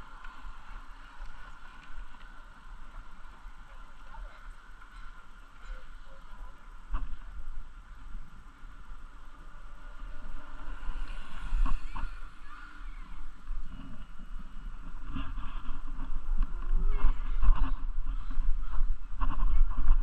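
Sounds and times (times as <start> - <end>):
steady outdoor hiss: 0.0 - 20.0
wind rumbling on microphone: 0.0 - 20.0.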